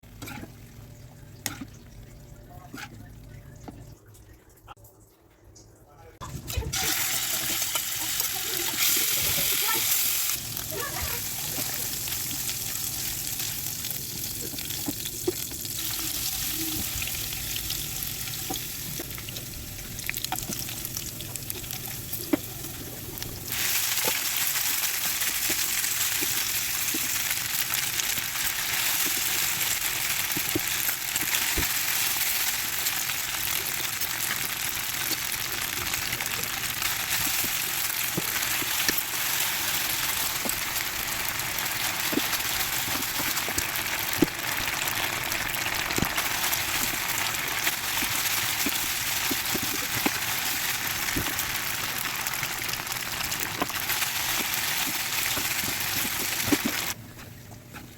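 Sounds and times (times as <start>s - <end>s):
food sizzling in a pan: 6.5s - 57.0s.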